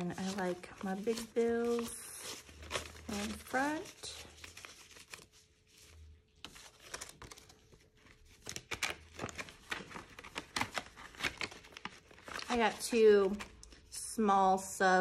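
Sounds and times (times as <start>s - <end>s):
paper and plastic rustling: 0.0s - 13.8s.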